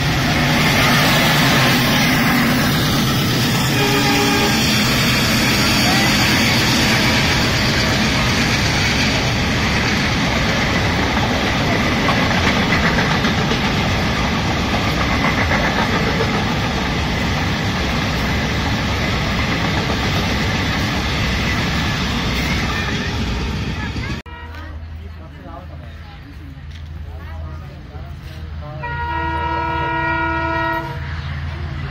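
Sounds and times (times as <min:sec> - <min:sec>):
train wheels rumbling on rails: 0:00.0 - 0:31.9.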